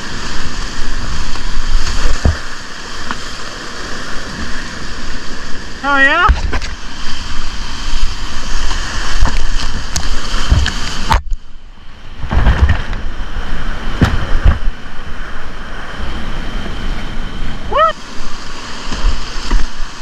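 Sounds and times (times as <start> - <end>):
water splashes and thumps: 0.0 - 11.5, 12.1 - 15.4, 18.0 - 20.0.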